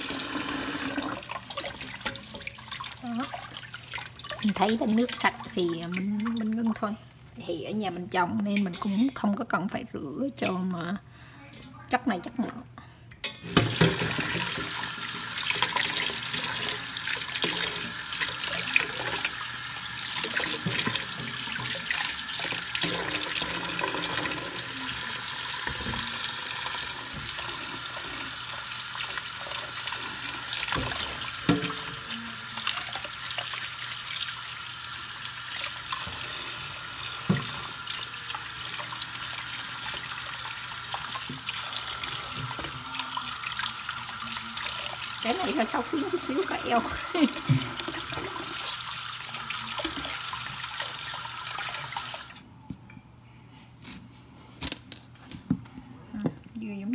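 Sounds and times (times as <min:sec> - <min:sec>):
tap water rushing into a bowl: 0:00.0 - 0:06.9, 0:13.5 - 0:52.4.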